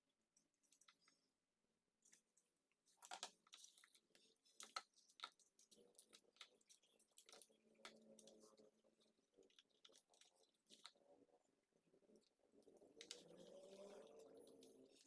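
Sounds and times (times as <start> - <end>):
faint clicks and crackles: 0.0 - 15.0.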